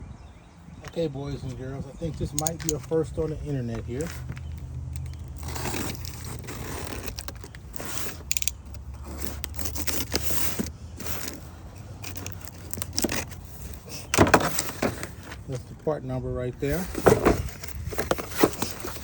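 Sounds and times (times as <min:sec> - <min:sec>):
plastic packaging rustling: 0:02.4 - 0:15.5, 0:16.6 - 0:19.0.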